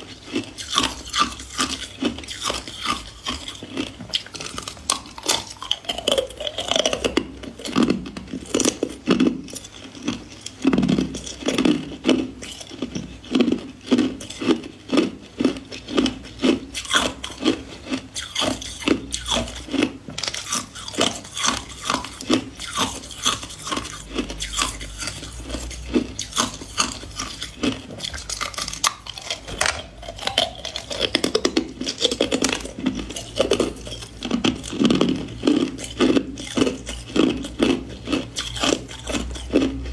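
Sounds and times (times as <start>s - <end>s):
person chewing ice cubes: 0.0s - 39.9s.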